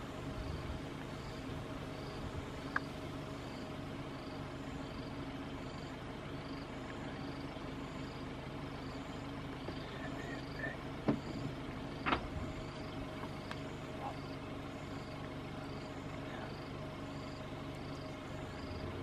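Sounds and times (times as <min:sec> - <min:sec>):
insects chirping: 0:00.0 - 0:19.0
vehicle engine idling: 0:00.0 - 0:19.0.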